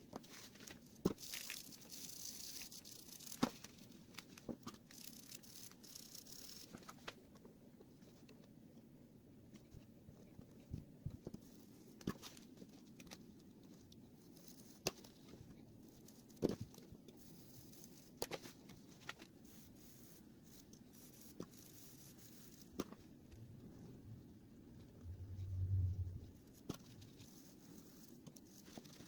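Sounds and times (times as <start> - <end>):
faint background noise: 0.0 - 29.0.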